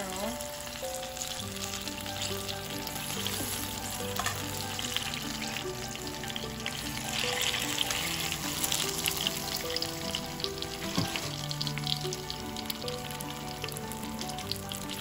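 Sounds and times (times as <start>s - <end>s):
oil sizzling and crackling: 0.0s - 15.0s
soft background music: 0.0s - 15.0s.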